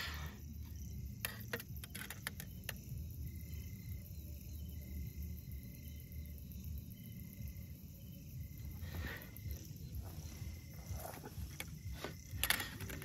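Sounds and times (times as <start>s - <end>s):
high insect trill: 0.0s - 13.0s
low outdoor rumble: 0.0s - 13.0s.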